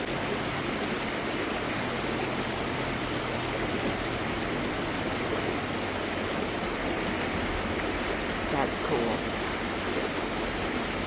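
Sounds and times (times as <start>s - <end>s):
water rushing over small falls: 0.0s - 11.0s.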